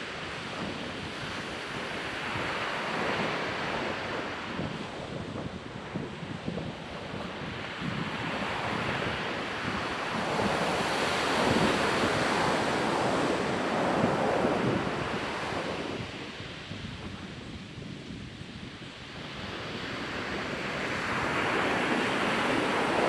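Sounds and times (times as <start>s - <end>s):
ocean waves on beach: 0.0s - 17.8s, 18.5s - 23.0s.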